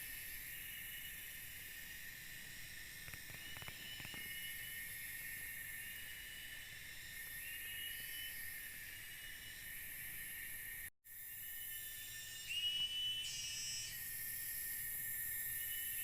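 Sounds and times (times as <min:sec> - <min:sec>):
higher insect call: 0:00.0 - 0:16.0
insects buzzing in chorus: 0:00.0 - 0:16.0.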